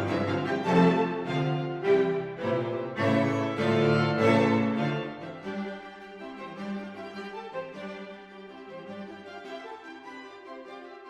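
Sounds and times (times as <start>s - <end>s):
bowed string music: 0.0s - 11.0s.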